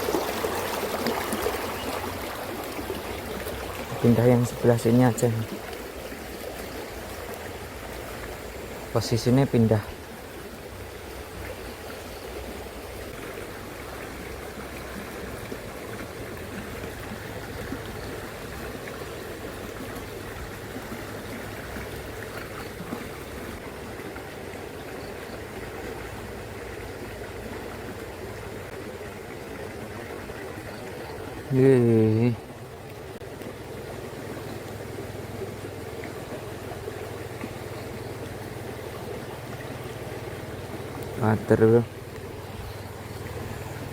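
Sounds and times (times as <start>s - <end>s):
fast-flowing river current: 0.0s - 43.9s.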